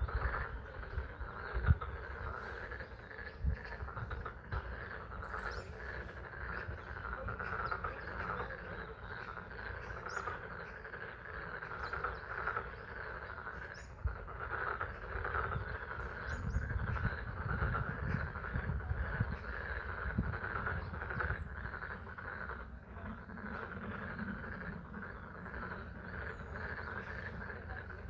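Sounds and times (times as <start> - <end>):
chorus of frogs calling: 0.0 - 28.0.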